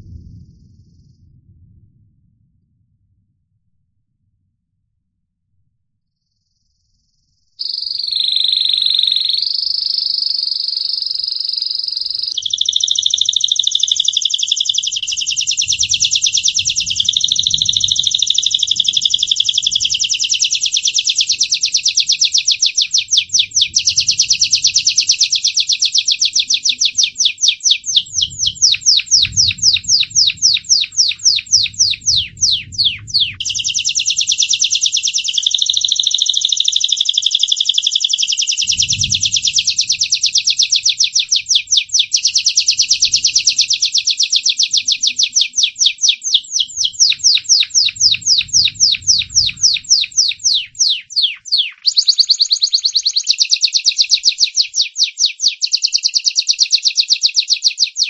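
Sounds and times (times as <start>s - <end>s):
canary singing: 7.6s - 58.0s.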